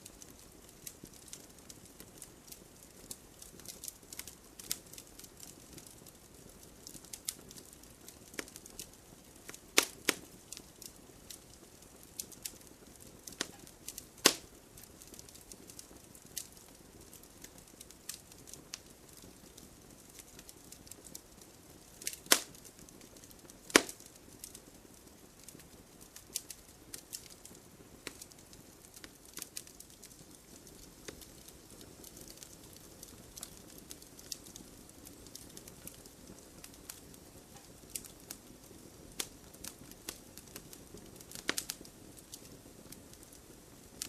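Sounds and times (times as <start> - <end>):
campfire snaps and pops: 0.0 - 44.0
low steady hiss: 0.0 - 44.0.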